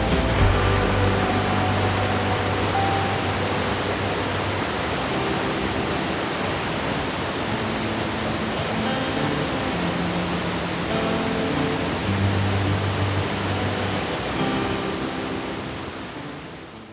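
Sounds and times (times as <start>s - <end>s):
soft background music: 0.0s - 16.9s
water rushing in stream: 0.0s - 16.9s.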